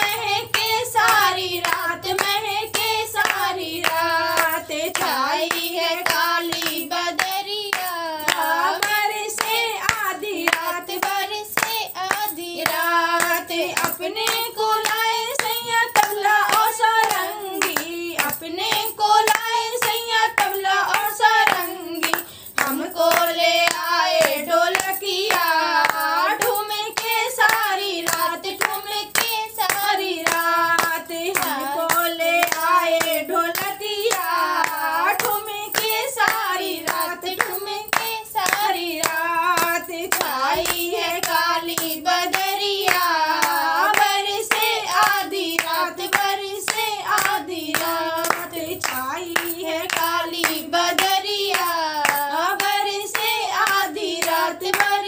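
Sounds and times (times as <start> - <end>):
hand claps: 0.0 - 55.0
woman singing: 0.0 - 55.0.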